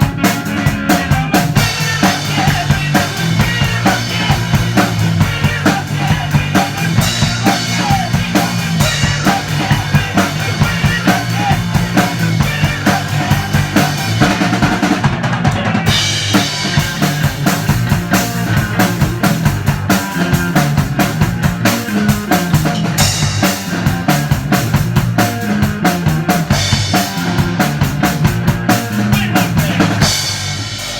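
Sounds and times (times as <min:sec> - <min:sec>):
drum kit beat: 0:00.0 - 0:30.9
rock band playing instrumental: 0:00.0 - 0:30.9.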